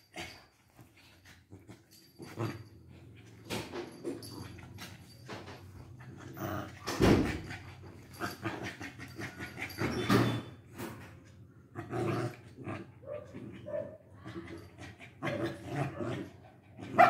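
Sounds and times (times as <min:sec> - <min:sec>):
dogs growling: 0:00.0 - 0:10.4, 0:11.6 - 0:17.0.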